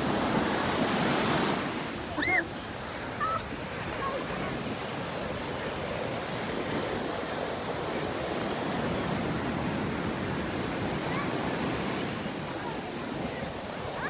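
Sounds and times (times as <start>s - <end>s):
sea surf washing onto shore: 0.0s - 14.0s.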